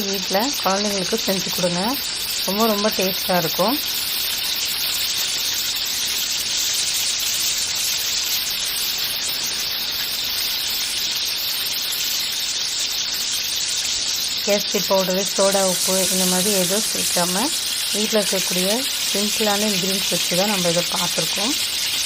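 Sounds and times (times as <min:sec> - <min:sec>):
fritters sizzling in oil: 0:00.0 - 0:22.0.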